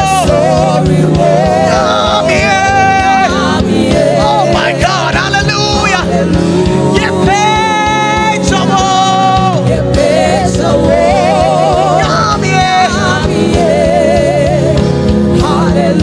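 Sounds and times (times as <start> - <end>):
band playing gospel music: 0.0 - 16.0
steady drum beat: 0.0 - 16.0.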